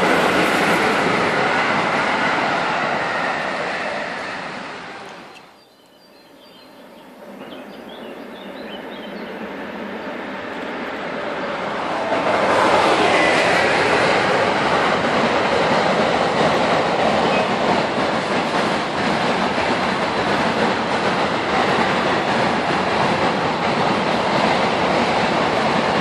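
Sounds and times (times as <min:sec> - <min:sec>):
freight train passing: 0:00.0 - 0:26.0.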